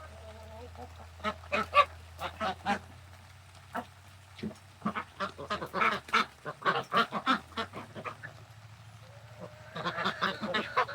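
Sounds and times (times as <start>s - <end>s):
ducks and geese quacking and honking: 0.0s - 3.1s, 3.7s - 10.9s.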